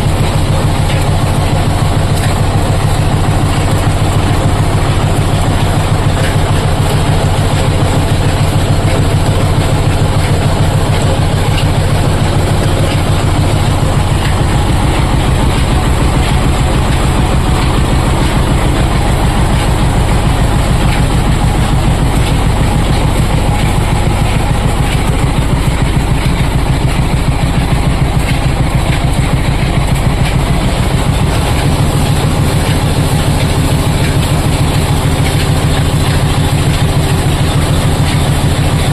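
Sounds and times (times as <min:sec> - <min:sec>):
machine with fast mechanical pulse: 0:00.0 - 0:38.9.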